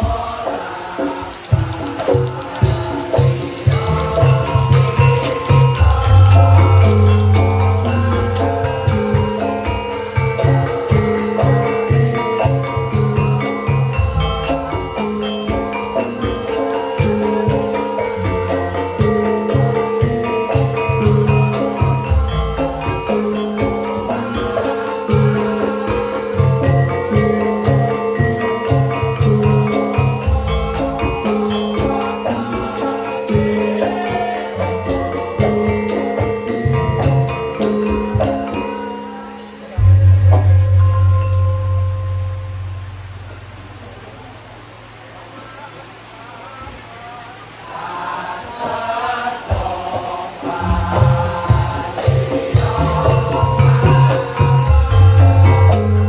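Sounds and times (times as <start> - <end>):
person singing: 0.0 - 43.6, 47.6 - 56.0
hand drum strokes: 0.0 - 45.6, 49.4 - 56.0
gamelan metallophones and gongs: 0.0 - 46.1, 49.6 - 56.0.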